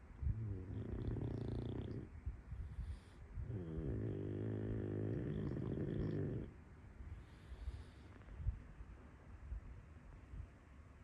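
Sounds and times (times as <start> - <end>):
faint low rumble: 0.0 - 11.0.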